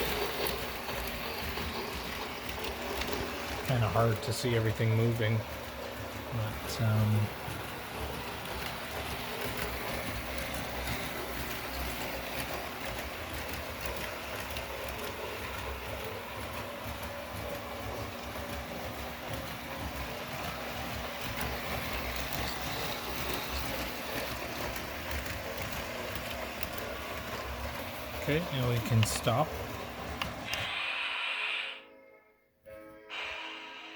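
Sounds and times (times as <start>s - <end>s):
toy train motor whir: 0.0s - 31.9s.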